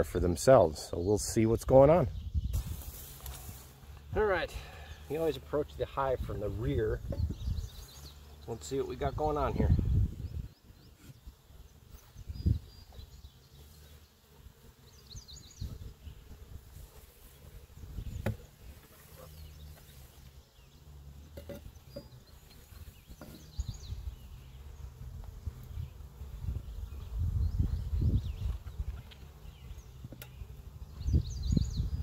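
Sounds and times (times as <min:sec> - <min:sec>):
bees buzzing: 0:02.8 - 0:32.0
bird chirping: 0:04.7 - 0:16.4, 0:17.3 - 0:25.0, 0:25.7 - 0:32.0.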